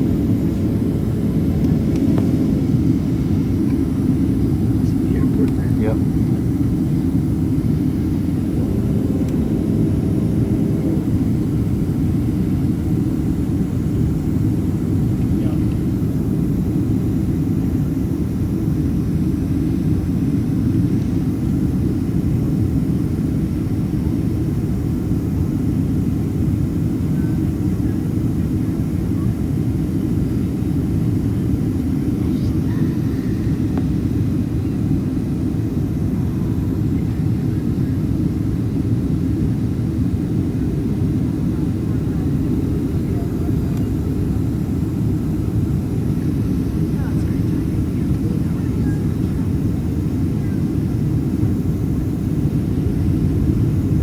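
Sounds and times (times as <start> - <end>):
aircraft cabin engine roar: 0.0 - 54.0.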